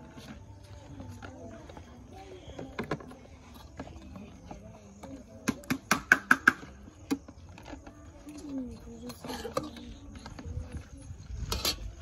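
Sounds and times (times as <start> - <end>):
children chattering: 0.0 - 12.0.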